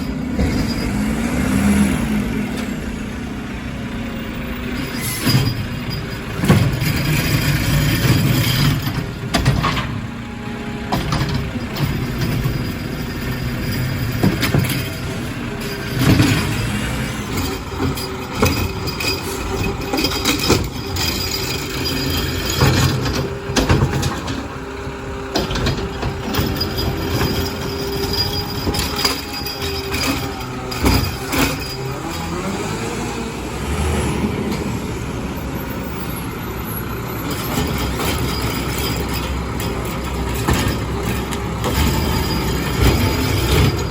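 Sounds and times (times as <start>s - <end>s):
garbage truck diesel engine: 0.0s - 43.9s.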